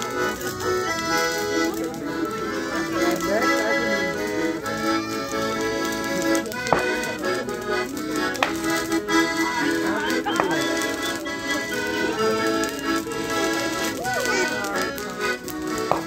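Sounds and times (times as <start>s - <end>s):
accordion dance music: 0.0s - 16.0s
sharp crack: 0.0s - 16.0s.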